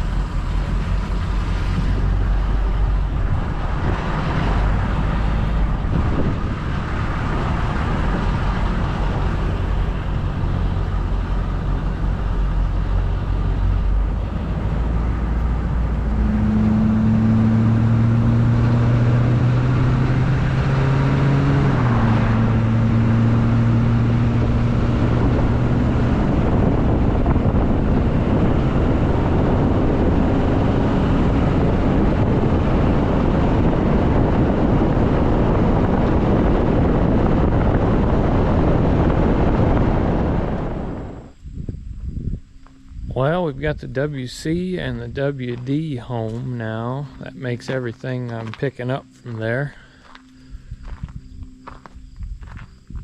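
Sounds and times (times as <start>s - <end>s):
heavy road noise: 0.0s - 53.0s
truck engine hum: 0.0s - 53.0s.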